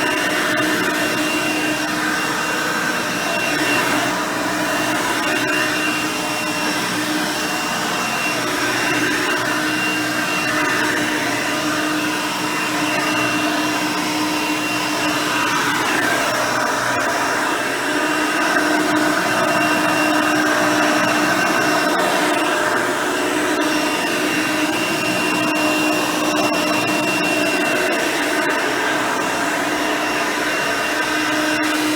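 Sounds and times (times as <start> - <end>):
upright vacuum cleaner running: 0.0 - 31.9.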